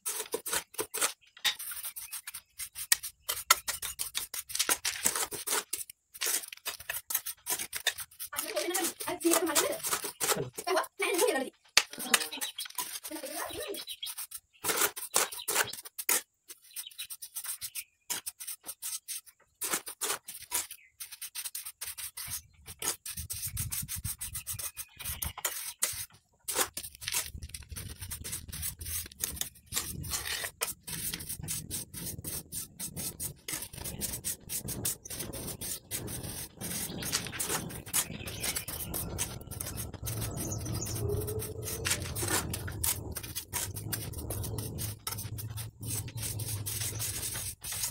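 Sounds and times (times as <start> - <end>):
trowel scraping wet mortar: 0.0 - 47.9.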